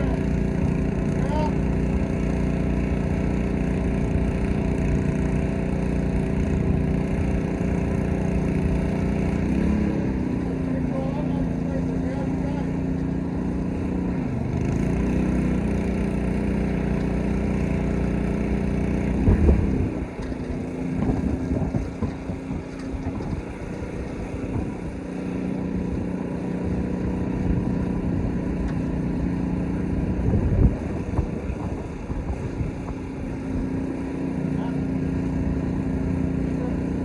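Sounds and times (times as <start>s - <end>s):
pressure washer engine running: 0.0s - 37.0s.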